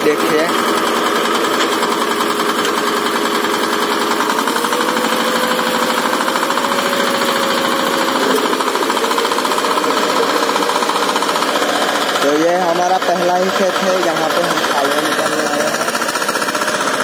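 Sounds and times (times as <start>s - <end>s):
diesel tiller engine thudding: 0.0s - 17.0s.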